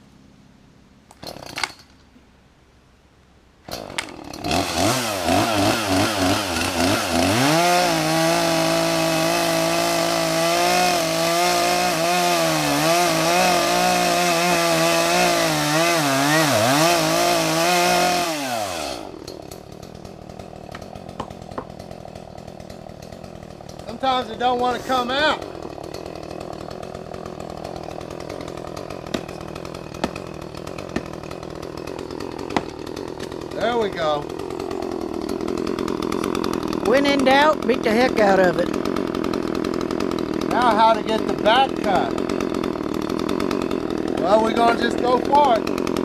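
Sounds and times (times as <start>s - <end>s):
chainsaw revving and cutting: 3.7s - 46.0s.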